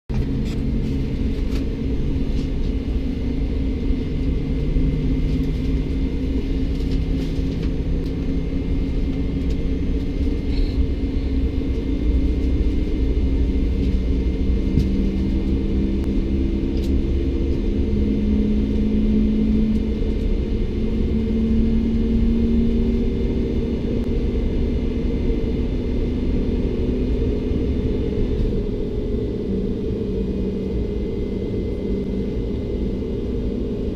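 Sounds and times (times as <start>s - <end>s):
airliner cabin rumble: 0.1s - 33.9s.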